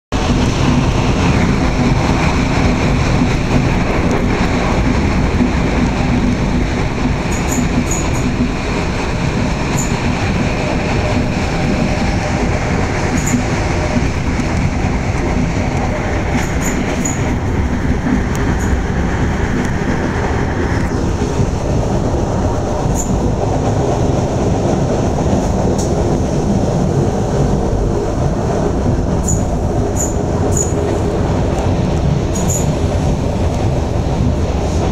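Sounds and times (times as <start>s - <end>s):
railbus engine and wheels rumbling: 0.1s - 34.9s.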